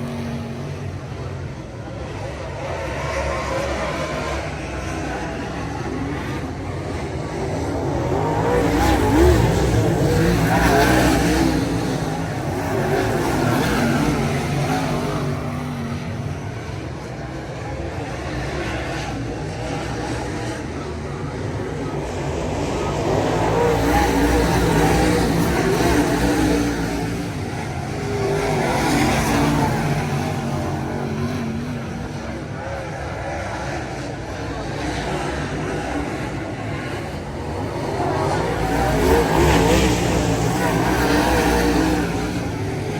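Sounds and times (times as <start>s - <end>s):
race car engines: 0.0s - 42.9s.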